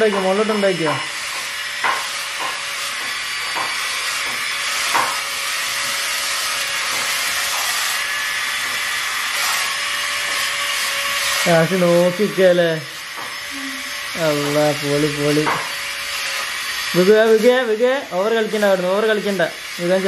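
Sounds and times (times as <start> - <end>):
toy fan whirring hiss: 0.4 - 20.0.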